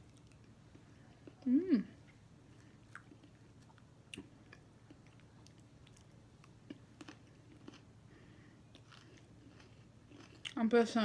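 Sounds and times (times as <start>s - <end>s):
quiet chewing: 0.0s - 10.6s.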